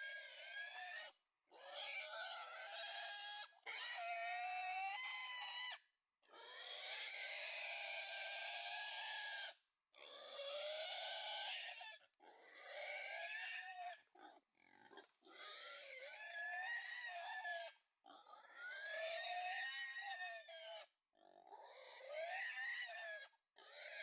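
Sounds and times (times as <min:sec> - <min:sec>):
wild boar squealing: 0:00.2 - 0:05.6, 0:06.3 - 0:24.0.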